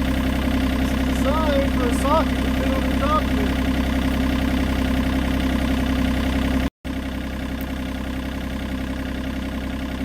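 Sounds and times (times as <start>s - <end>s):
diesel excavator engine idling: 0.0s - 10.0s.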